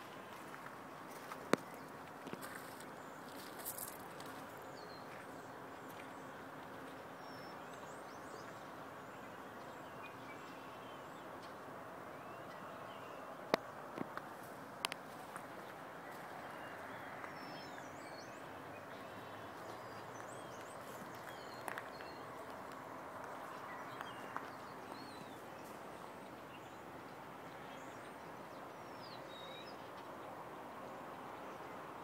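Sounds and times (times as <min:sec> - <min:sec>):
small birds chirping: 0:00.2 - 0:11.6, 0:12.2 - 0:30.0.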